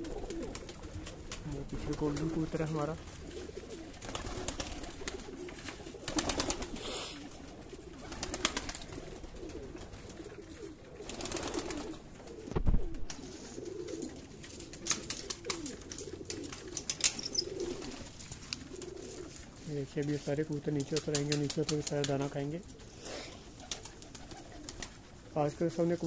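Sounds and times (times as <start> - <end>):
wings flapping: 0.0 - 19.6, 20.7 - 25.3
pigeons cooing: 0.0 - 25.3.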